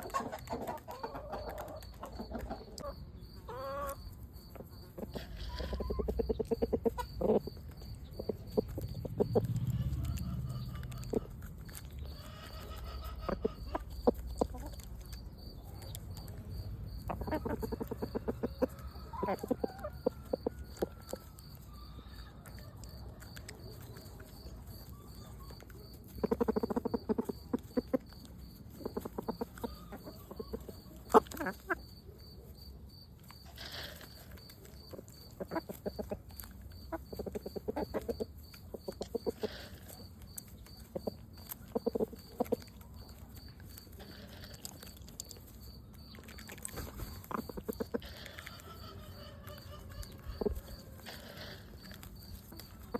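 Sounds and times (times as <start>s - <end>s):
chicken clucking: 0.0s - 52.9s.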